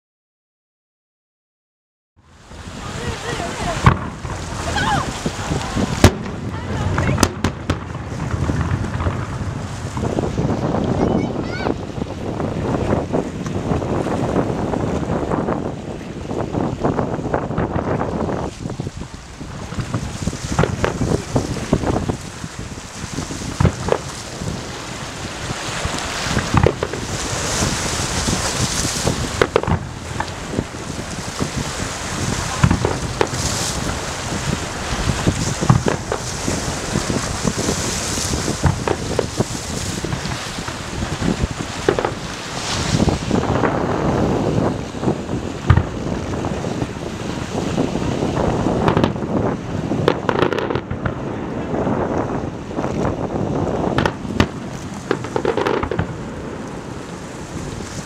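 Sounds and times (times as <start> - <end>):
wind noise on microphone: 2.2 - 58.0
muffled firework booms: 2.8 - 13.9, 17.0 - 57.3.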